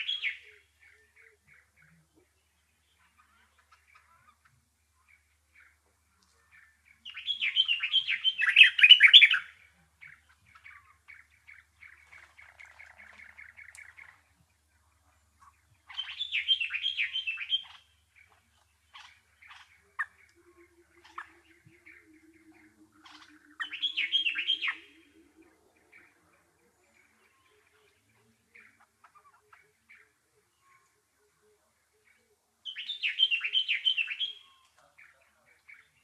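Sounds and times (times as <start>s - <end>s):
songbird chattering: 0.0s - 31.4s, 32.0s - 36.0s.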